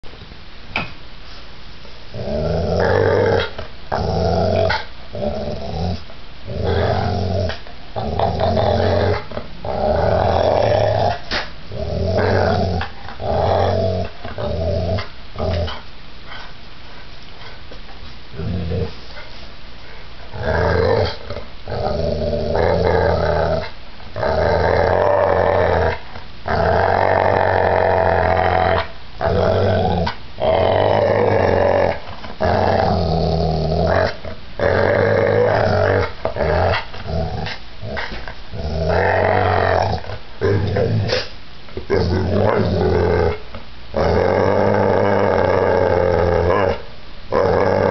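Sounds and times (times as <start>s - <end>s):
dog growling in play: 2.1s - 16.4s, 18.3s - 19.4s, 20.2s - 47.9s.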